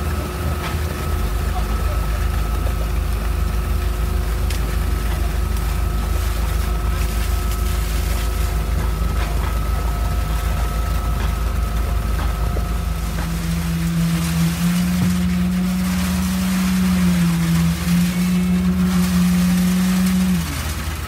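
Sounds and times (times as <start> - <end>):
concrete pump low drone: 0.0 - 21.0
thin steady whine: 0.0 - 21.0.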